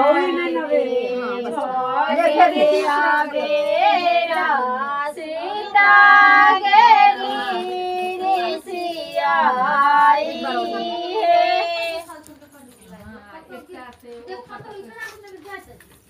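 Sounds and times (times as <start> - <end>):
women singing together: 0.0 - 13.4.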